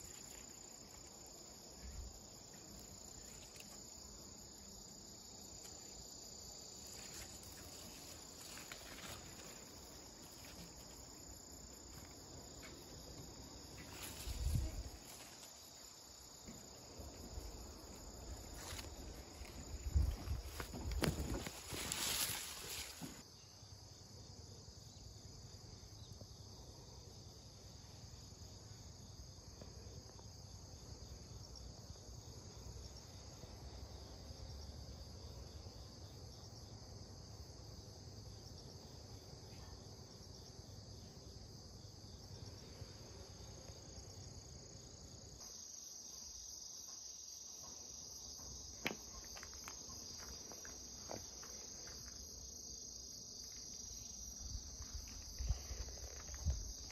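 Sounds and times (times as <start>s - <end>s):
crickets trilling: 0.0s - 56.9s.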